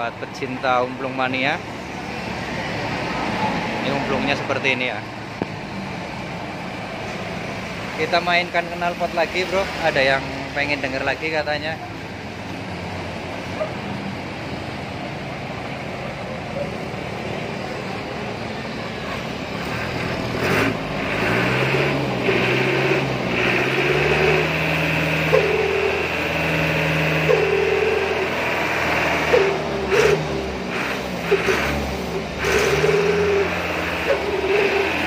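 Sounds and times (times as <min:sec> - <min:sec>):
truck engine idling and revving: 0:00.0 - 0:35.0.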